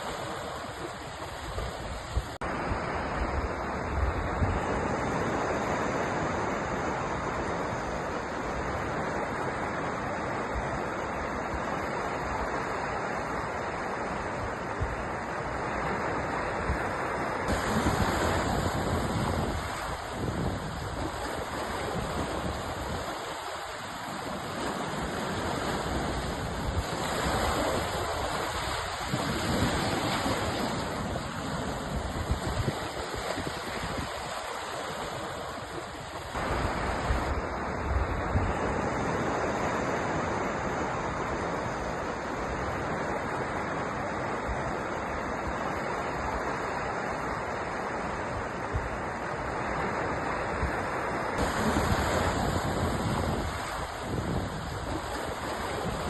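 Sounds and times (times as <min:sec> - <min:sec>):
waves washing in: 0:00.0 - 0:56.0.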